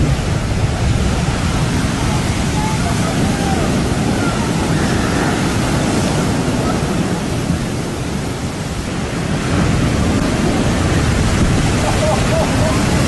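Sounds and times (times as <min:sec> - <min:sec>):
heavy surf waves breaking: 0:00.0 - 0:13.0.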